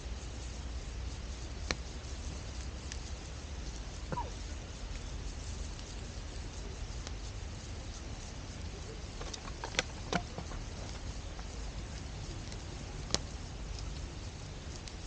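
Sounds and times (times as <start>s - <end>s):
campfire hissing: 0.0s - 15.0s
fire crackling pops: 0.0s - 15.0s.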